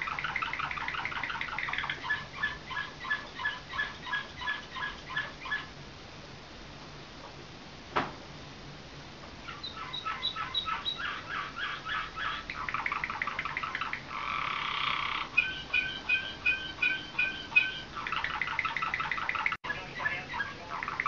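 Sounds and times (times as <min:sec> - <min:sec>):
canary singing: 0:00.0 - 0:05.8, 0:09.4 - 0:21.0.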